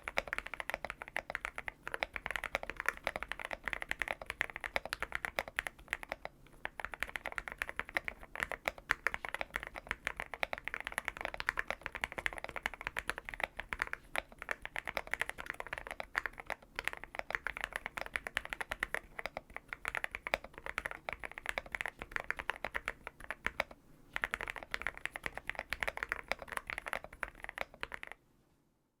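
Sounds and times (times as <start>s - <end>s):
mechanical keyboard typing: 0.0s - 28.2s.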